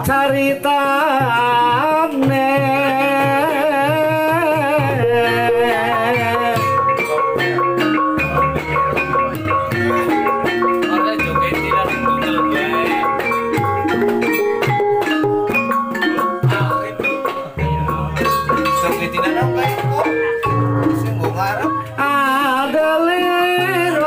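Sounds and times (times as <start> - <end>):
hand drum: 0.0 - 24.0
kettle gongs and metallophones melody: 2.6 - 22.2.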